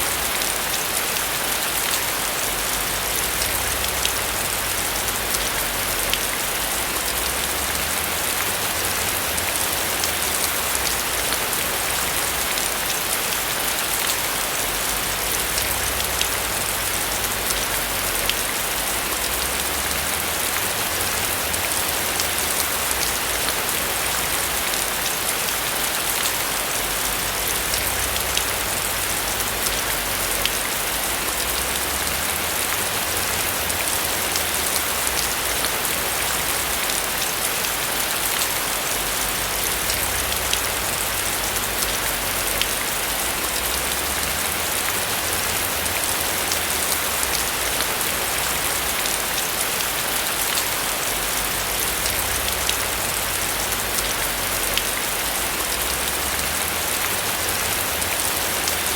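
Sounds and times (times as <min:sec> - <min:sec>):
rain on a roof: 0:00.0 - 0:58.9.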